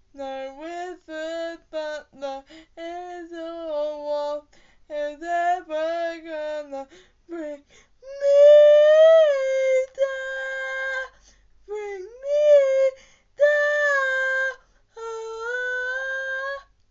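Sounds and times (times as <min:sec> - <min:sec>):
woman singing unaccompanied: 0:00.0 - 0:16.9.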